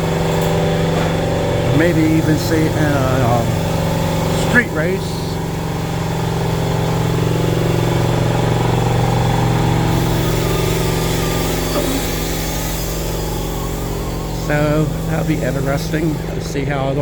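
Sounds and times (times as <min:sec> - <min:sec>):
motor running: 0:00.0 - 0:17.0.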